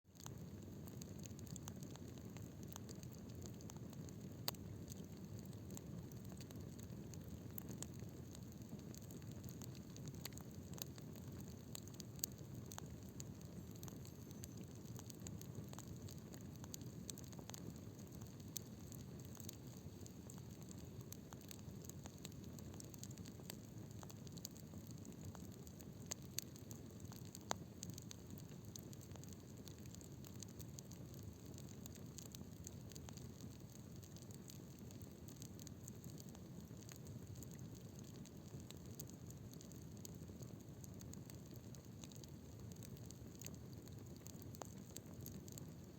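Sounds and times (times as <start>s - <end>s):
bonfire burning: 0.2s - 45.9s
fire crackling and popping: 0.2s - 45.9s.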